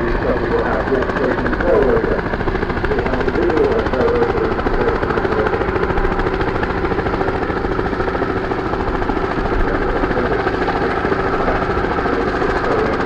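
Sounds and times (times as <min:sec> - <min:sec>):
helicopter running: 0:00.0 - 0:13.0.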